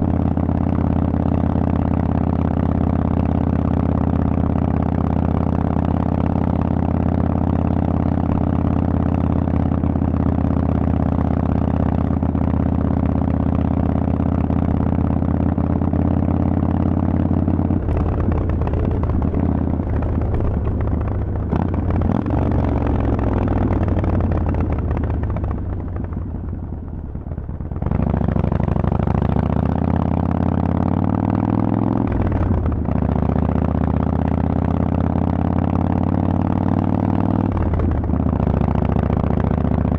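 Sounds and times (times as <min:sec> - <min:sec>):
loud motorcycle engine riding: 0:00.0 - 0:39.9.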